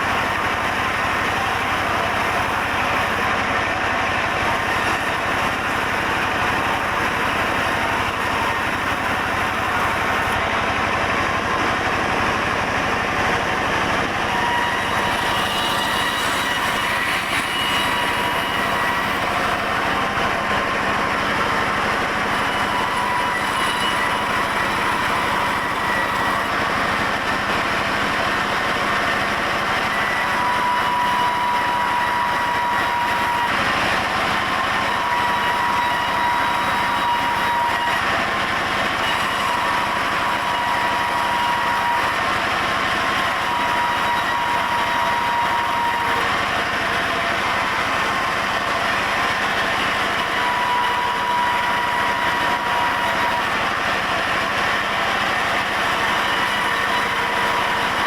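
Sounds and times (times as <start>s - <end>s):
high saw whine: 0.0s - 58.0s
sawmill saw running: 0.0s - 58.0s.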